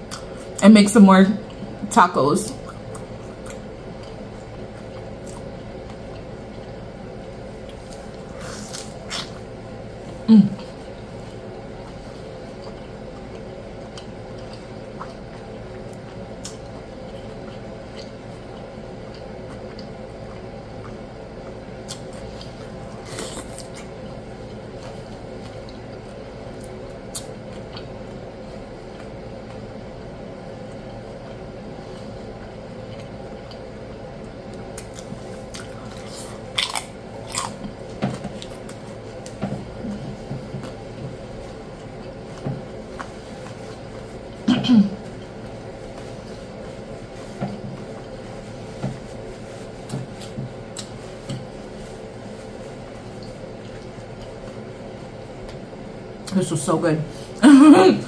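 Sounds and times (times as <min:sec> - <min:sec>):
background hum: 0:00.0 - 0:58.0
person chewing food: 0:02.5 - 0:56.3.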